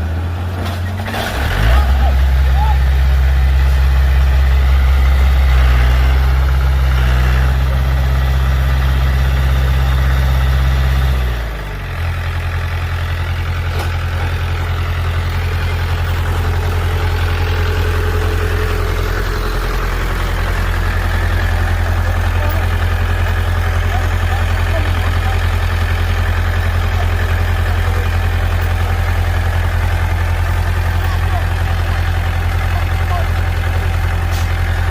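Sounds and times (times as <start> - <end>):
diesel engine running and idling: 0.0 - 34.9.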